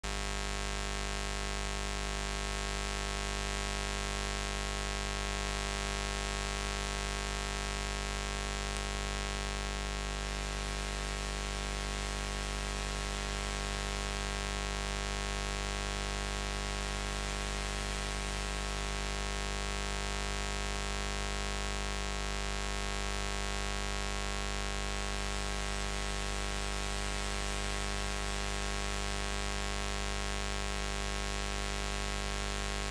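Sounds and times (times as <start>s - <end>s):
low steady buzz: 4.4s - 32.9s.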